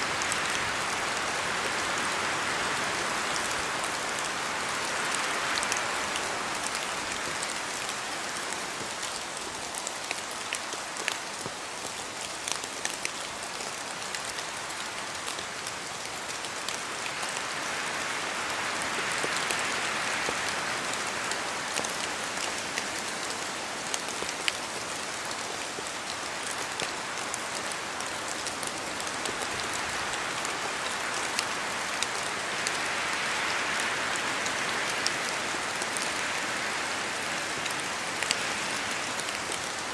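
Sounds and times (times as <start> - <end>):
rain falling on trees: 0.0 - 39.9.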